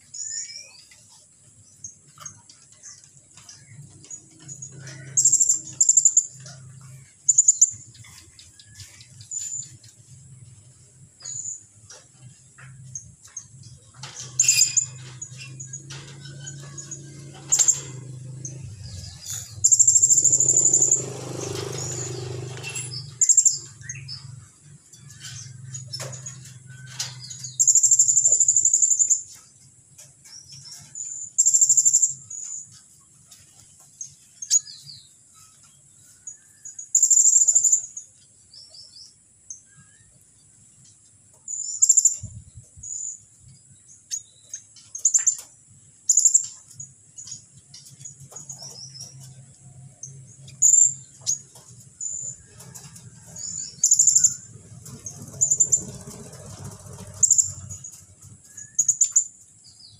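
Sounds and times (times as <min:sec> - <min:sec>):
bird singing fast trills: 0:00.0 - 0:12.0, 0:12.8 - 0:29.5, 0:30.2 - 0:32.9, 0:33.9 - 0:40.2, 0:41.5 - 0:45.4, 0:46.0 - 0:59.9.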